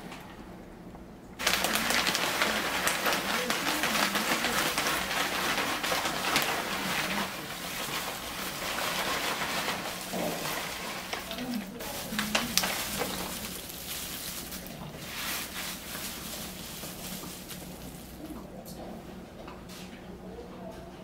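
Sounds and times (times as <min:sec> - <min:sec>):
wood chips clattering onto tray: 0:01.4 - 0:18.4.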